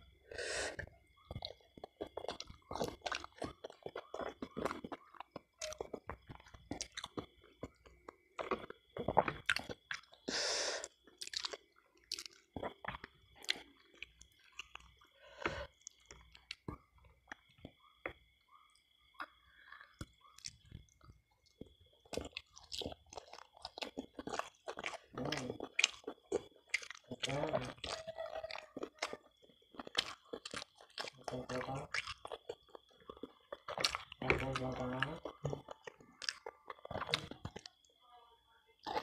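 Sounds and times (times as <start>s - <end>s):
wet chewing and mouth smacks: 0.7s - 38.0s.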